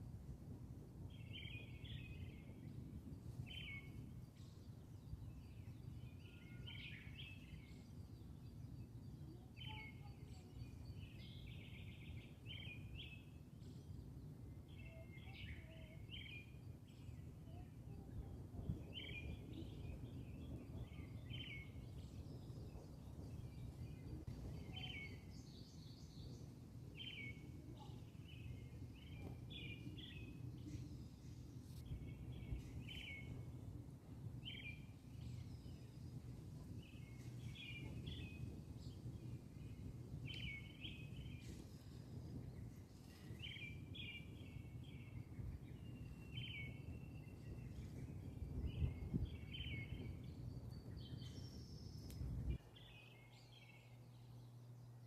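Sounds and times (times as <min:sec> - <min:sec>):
low outdoor rumble: 0:00.0 - 0:55.0
small birds chirping: 0:01.0 - 0:55.0.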